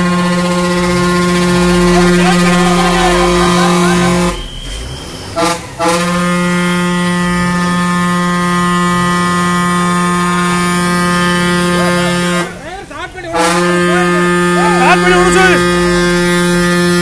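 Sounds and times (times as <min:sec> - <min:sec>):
vehicle horn blasts: 0:00.0 - 0:17.0.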